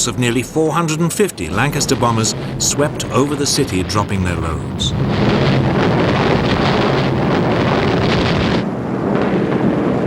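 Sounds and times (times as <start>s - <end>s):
aircraft engines roaring: 0.0s - 8.6s.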